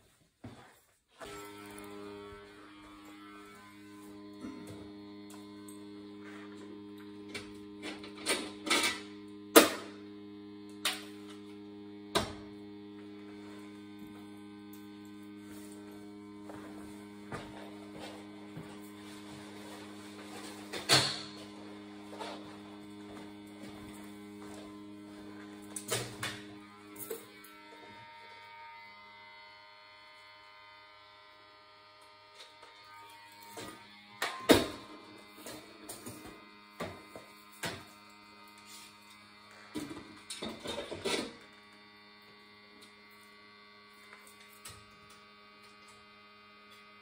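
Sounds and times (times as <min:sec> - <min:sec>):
boiler electrical hum: 0:00.5 - 0:47.0.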